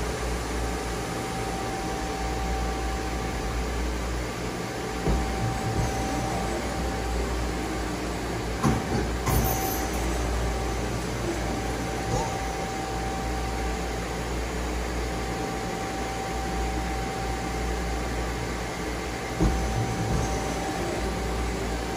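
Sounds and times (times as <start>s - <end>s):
lathe machine hum: 0.0s - 21.9s.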